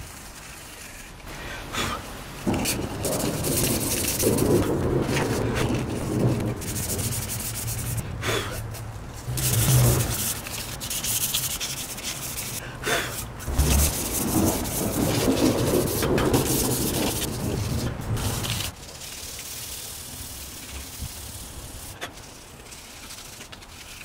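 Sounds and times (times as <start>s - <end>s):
sandpaper rubbing on metal: 2.4s - 24.0s.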